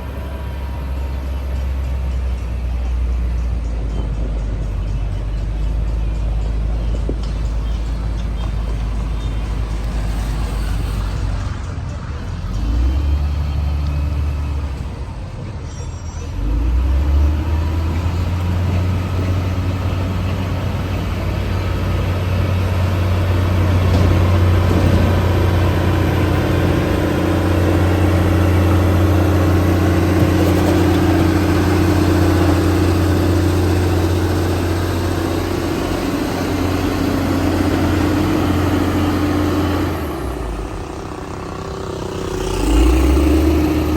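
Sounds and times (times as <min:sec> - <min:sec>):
bulldozer diesel engine: 0:00.0 - 0:43.9.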